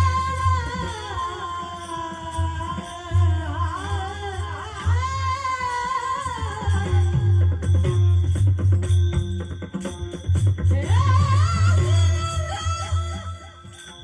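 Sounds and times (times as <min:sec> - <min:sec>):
drum accompaniment: 0:00.0 - 0:14.0.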